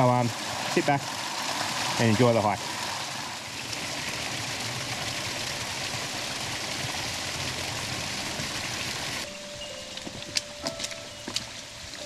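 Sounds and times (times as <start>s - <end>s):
water rushing down a creek: 0.0s - 10.1s.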